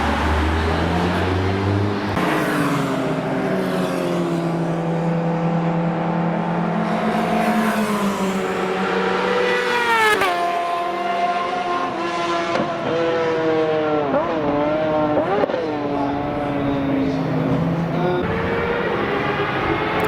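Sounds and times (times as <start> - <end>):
car engine running hard: 0.0 - 20.0.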